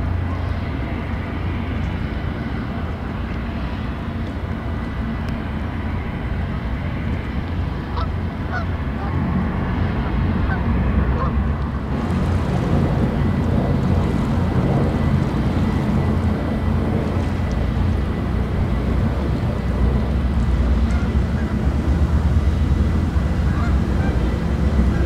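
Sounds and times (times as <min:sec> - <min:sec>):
ship engines rumbling: 0:00.0 - 0:25.0
wind on microphone: 0:00.0 - 0:25.0.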